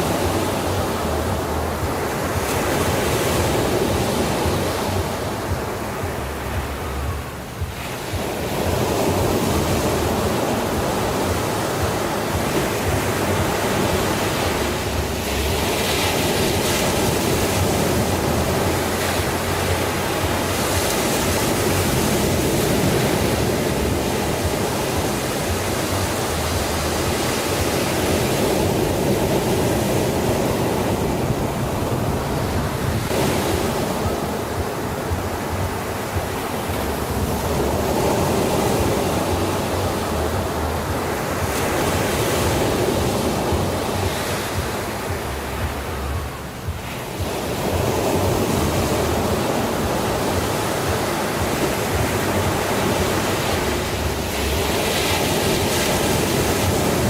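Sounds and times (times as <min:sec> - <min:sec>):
sea waves rushing: 0:00.0 - 0:57.0.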